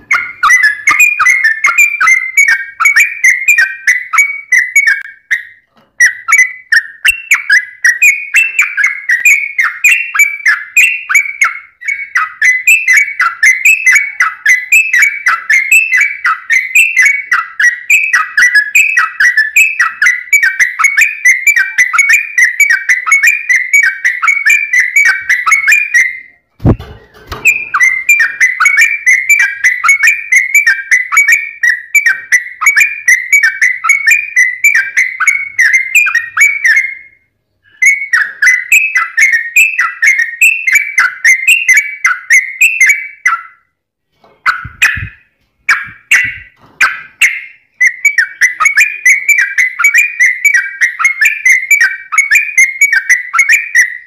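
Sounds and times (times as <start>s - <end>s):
bird singing whistled notes: 0.0s - 43.7s, 44.5s - 54.0s.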